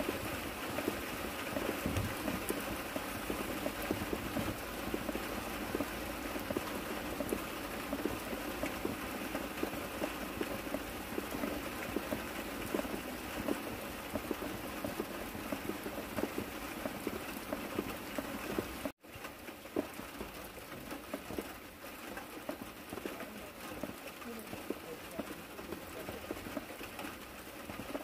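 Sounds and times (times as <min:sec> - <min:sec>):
rain falling on a pond: 0:00.0 - 0:28.0.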